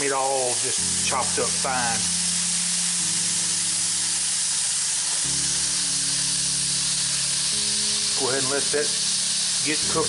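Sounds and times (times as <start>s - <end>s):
background music low chords: 0.0s - 10.0s
meat sizzling in a skillet: 0.0s - 10.0s.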